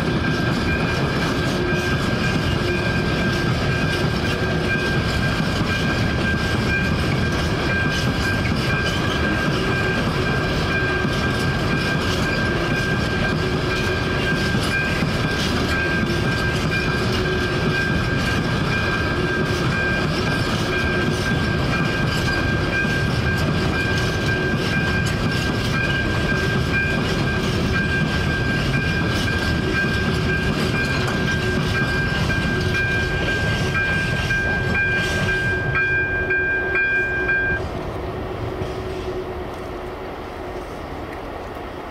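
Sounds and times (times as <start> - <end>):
train wheels clattering on rails: 0.0 - 41.9
electronic warning bell: 0.2 - 37.6.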